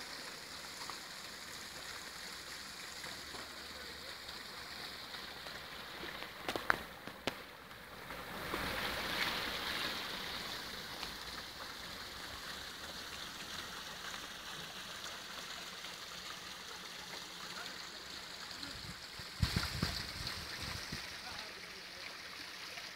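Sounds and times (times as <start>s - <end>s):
waterfall pouring into pool: 0.0s - 22.9s.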